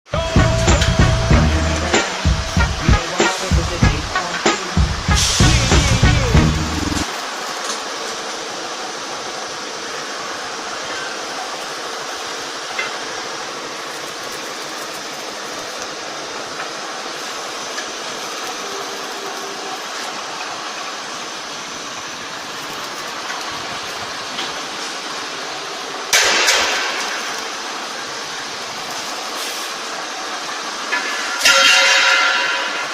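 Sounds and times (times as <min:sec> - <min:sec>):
machine running: 0:00.1 - 0:31.5
sudden loud hiss: 0:00.1 - 0:32.9.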